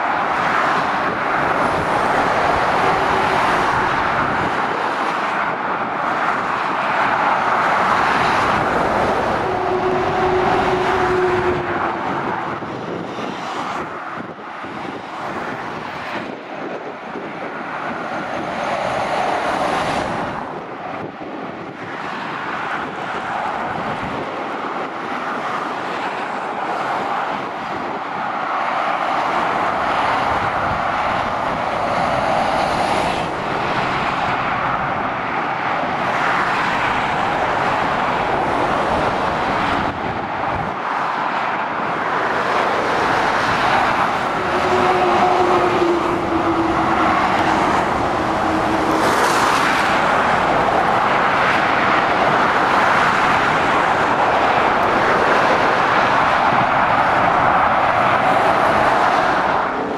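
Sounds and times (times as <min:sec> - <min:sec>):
road traffic noise: 0:00.0 - 0:59.9.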